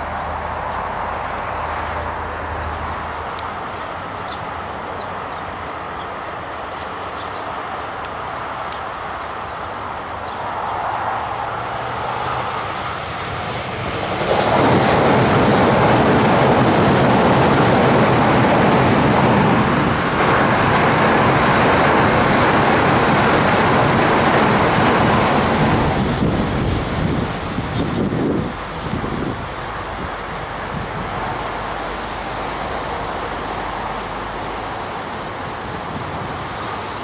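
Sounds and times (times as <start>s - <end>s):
train wheels rushing on rail: 0.0s - 37.0s.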